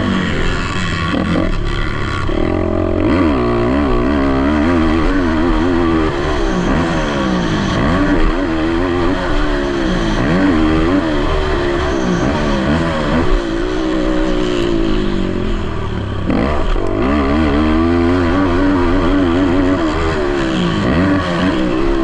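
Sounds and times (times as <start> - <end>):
quad engines revving: 0.0 - 22.0.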